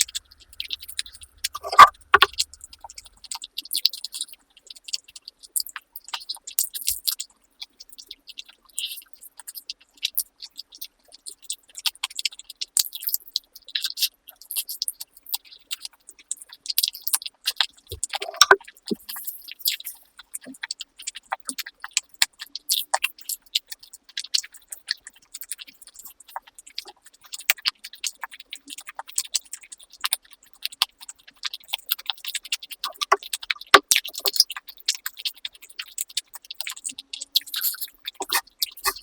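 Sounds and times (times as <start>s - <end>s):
chewing and crunching food: 0.0s - 39.0s.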